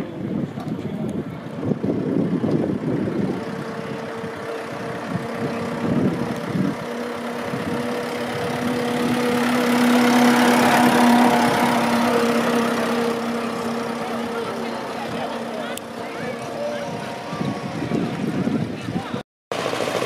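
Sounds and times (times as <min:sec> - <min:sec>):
car engine passing by: 0:02.0 - 0:20.0.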